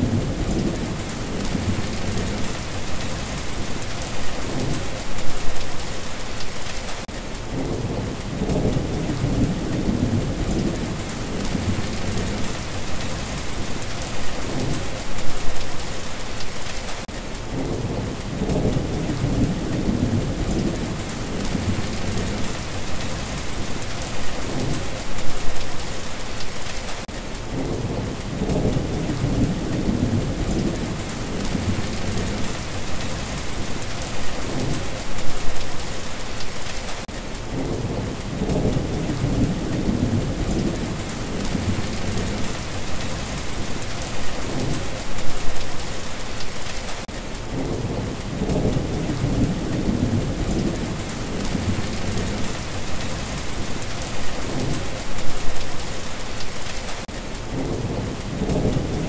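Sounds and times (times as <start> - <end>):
thunder rumbling: 0.0 - 5.6, 7.5 - 15.9, 17.5 - 25.8, 27.5 - 35.8, 37.5 - 45.9, 47.5 - 55.9, 57.5 - 59.0
rain hissing: 0.0 - 59.0.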